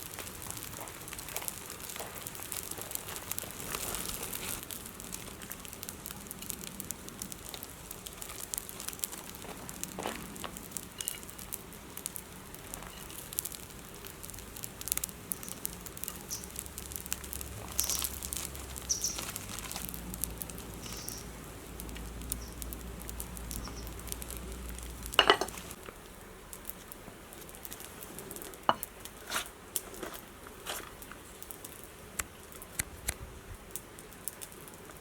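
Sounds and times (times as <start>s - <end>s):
campfire crackling and popping: 0.0s - 35.0s
sharp snaps of fire: 0.0s - 35.0s.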